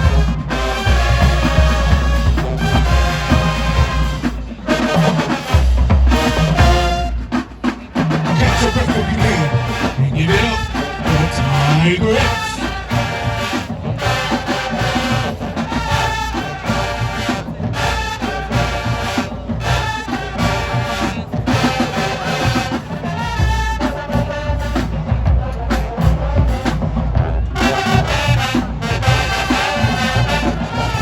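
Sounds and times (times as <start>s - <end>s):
marching band playing brass music: 0.0s - 31.0s.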